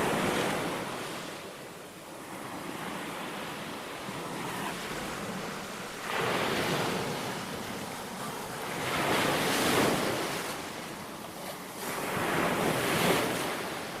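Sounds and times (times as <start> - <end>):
waves breaking on a beach: 0.0 - 14.0.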